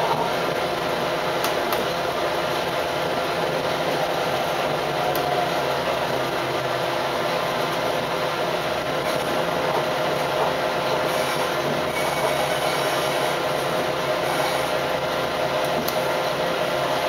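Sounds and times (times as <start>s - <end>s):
railcar engine and running drone: 0.0s - 17.0s.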